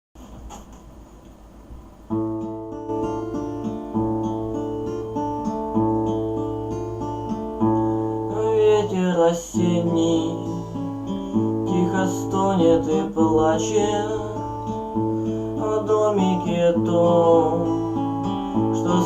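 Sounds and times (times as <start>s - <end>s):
acoustic guitar chords: 1.7s - 19.0s.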